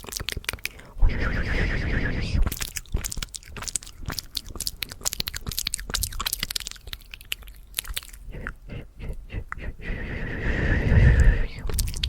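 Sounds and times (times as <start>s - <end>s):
wet tongue and lip clicks: 0.0s - 9.8s, 10.9s - 12.0s.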